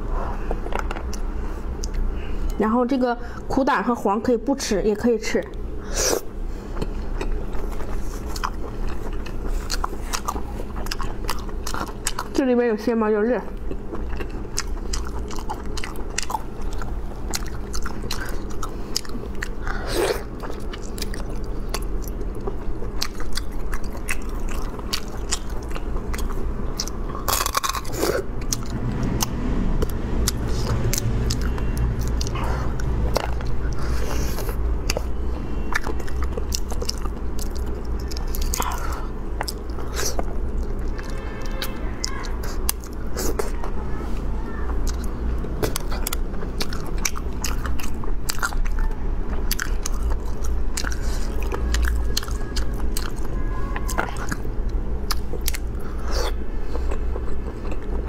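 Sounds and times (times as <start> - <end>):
steady low hum: 0.0 - 58.0
person chewing with wet smacks: 0.4 - 2.6, 5.4 - 12.5, 13.5 - 43.8, 44.7 - 58.0.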